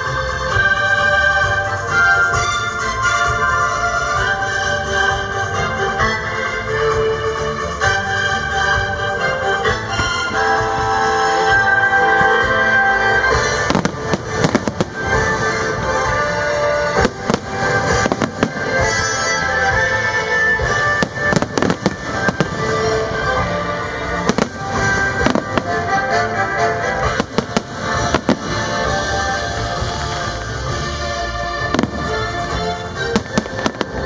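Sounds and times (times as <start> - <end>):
music: 0.0 - 34.0.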